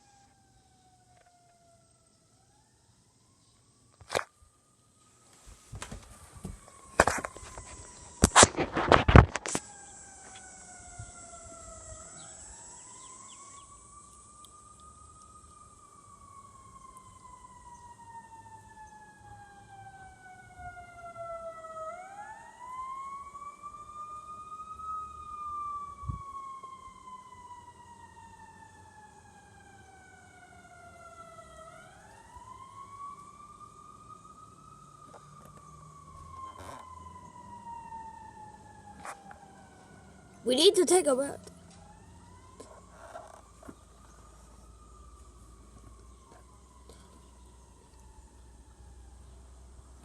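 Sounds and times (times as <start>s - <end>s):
fire truck siren wailing: 0.0s - 3.4s, 5.8s - 50.0s.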